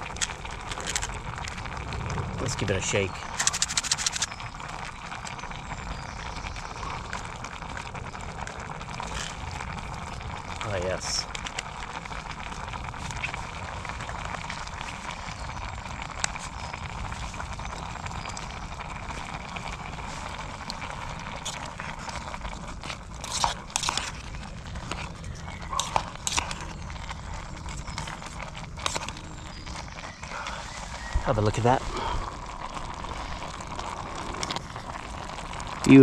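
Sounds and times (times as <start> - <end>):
gas stove burning: 0.0 - 36.0.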